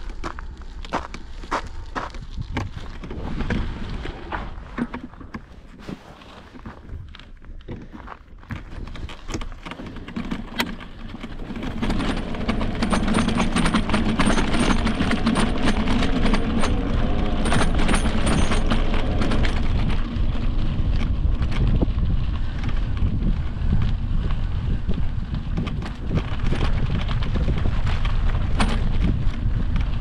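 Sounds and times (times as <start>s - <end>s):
bike rattling and clicking: 0.0s - 30.0s
tyres on dirt: 0.0s - 30.0s
wind rumbling on microphone: 0.0s - 30.0s.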